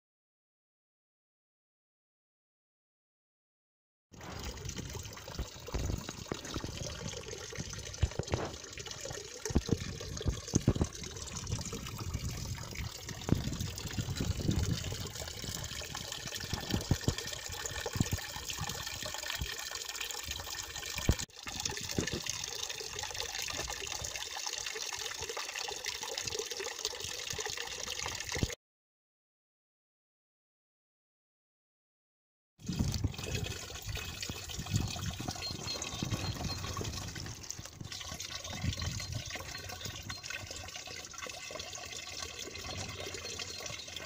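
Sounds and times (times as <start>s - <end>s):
fountain water splashing into basin: 4.2s - 28.6s, 32.6s - 44.0s.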